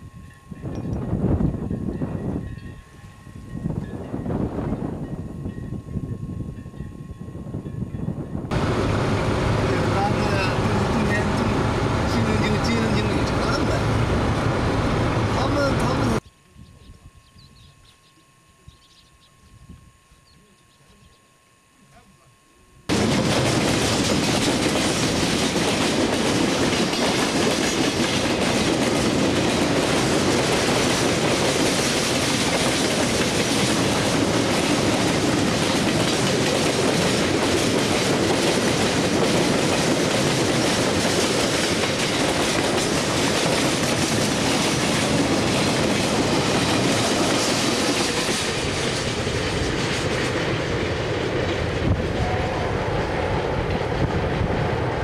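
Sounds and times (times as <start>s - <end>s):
train wheels rumbling on rail: 0.0s - 16.2s, 22.9s - 55.0s.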